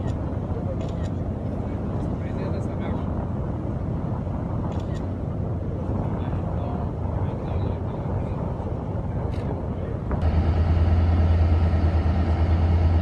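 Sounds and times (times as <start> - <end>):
boat engine rumble: 0.0 - 13.0
water noise: 0.0 - 13.0
wind noise: 0.0 - 13.0.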